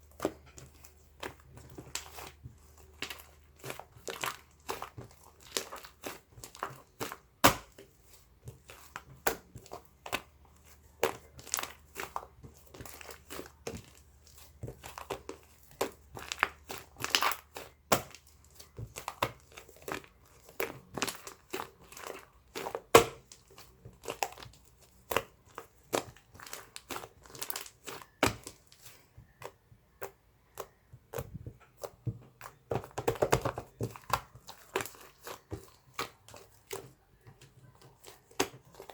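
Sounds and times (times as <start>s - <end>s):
crinkling and crumpling: 0.0s - 38.9s.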